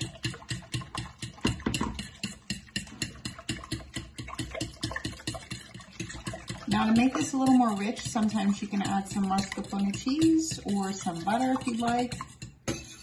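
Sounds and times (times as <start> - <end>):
fork beating eggs in metal pan: 0.0 - 13.0.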